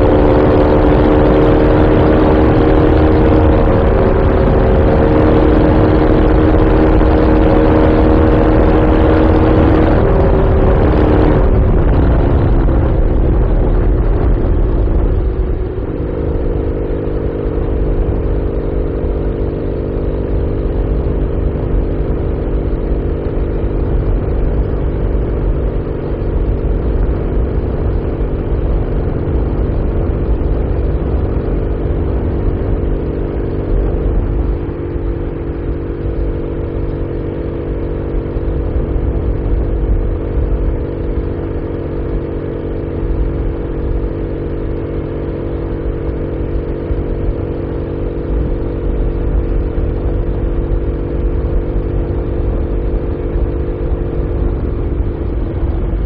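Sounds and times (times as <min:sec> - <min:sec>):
wind rush: 0:00.0 - 0:18.9, 0:20.4 - 0:56.0
motorcycle engine running: 0:00.0 - 0:56.0.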